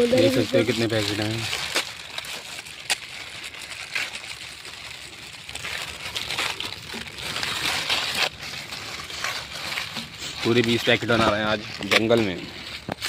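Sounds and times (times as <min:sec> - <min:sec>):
plastic packets crinkling and tearing: 0:00.0 - 0:13.0.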